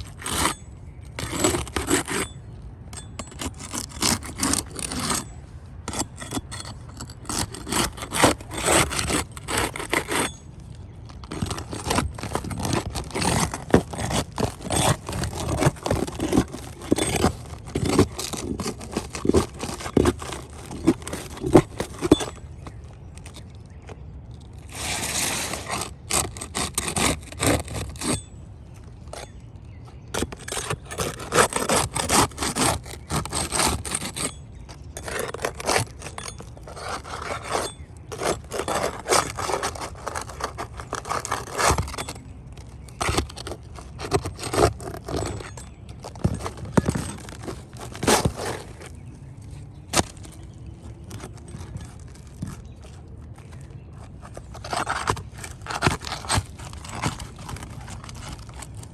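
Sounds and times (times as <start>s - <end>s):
shingles scraping: 0.0s - 58.9s.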